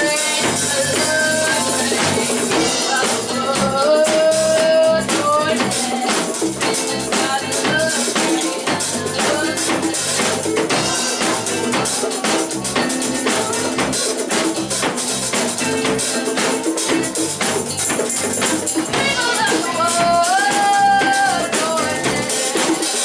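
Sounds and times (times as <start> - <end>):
live band playing: 0.0 - 23.0.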